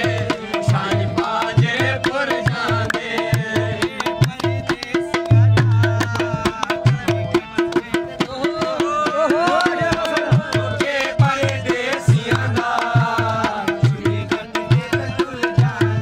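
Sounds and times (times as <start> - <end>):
dholak and tabla drumming: 0.0 - 16.0
harmonium: 0.0 - 16.0.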